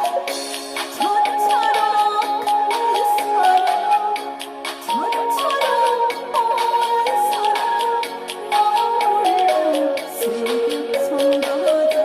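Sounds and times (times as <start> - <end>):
trot song with drum beat: 0.0 - 12.0.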